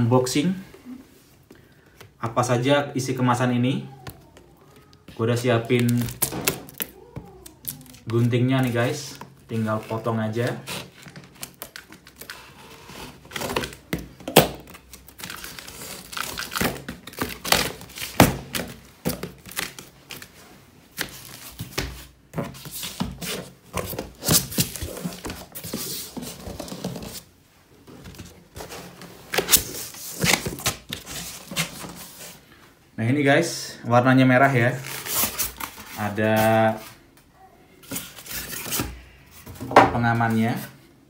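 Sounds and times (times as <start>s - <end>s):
cardboard crinkling and scraping: 4.2s - 32.5s, 34.6s - 37.1s, 37.8s - 40.8s.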